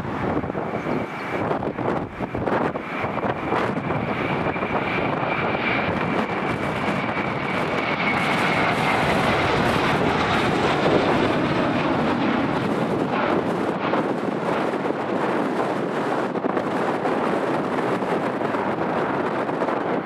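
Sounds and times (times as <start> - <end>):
airliner engine rumble: 0.0 - 20.0
high engine whine: 0.0 - 20.0.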